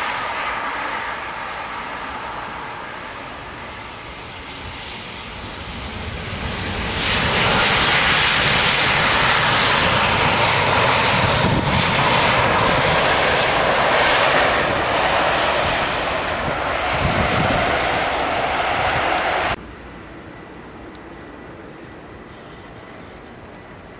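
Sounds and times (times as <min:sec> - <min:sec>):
jet airliner engine noise: 0:00.0 - 0:23.9.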